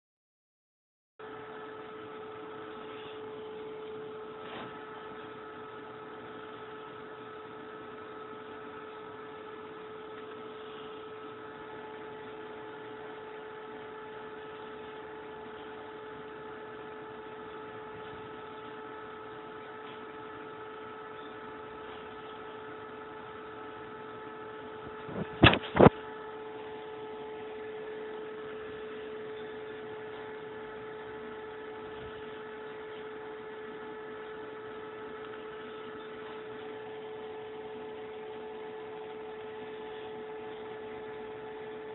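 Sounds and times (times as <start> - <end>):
electrical hum: 1.2 - 41.9.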